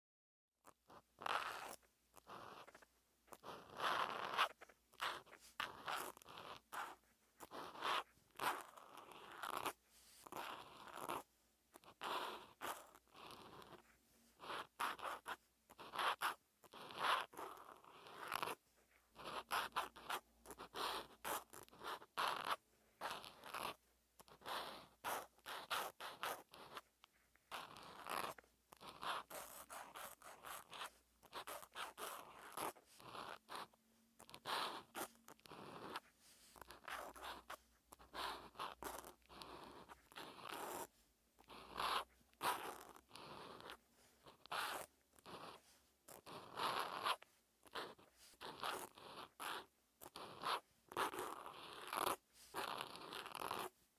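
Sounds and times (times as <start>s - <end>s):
marker scratching on paper: 0.7s - 53.8s.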